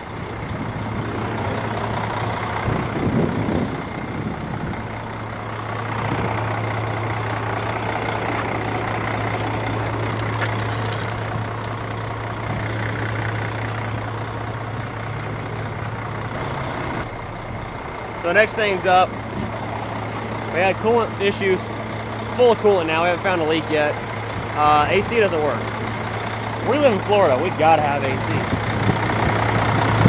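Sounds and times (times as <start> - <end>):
diesel truck engine idling: 0.0 - 30.0
engine rattle: 0.0 - 30.0.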